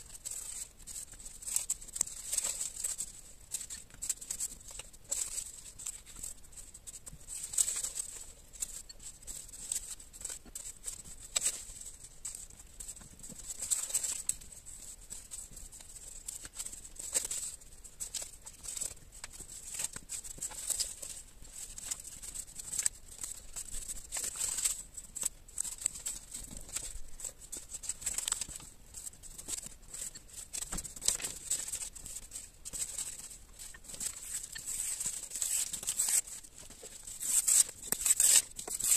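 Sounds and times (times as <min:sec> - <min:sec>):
paper strips rustling: 0:00.0 - 0:38.9.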